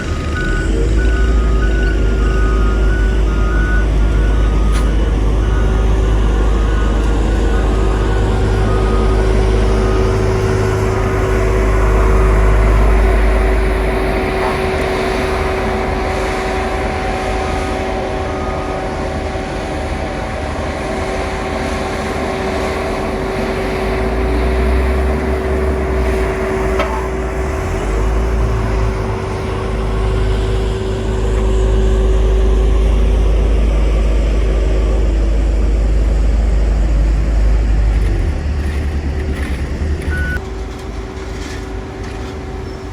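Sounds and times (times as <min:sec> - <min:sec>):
diesel engine drone: 0:00.0 - 0:42.9
steady whine: 0:00.0 - 0:42.9.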